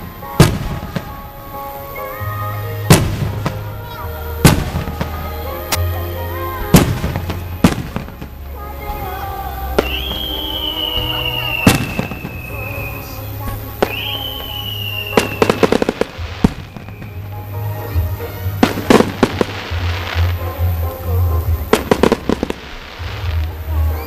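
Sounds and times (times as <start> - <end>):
crackling firework bursts: 0.0 - 24.0
firework bangs: 0.0 - 24.0
firework whistle: 0.0 - 24.0.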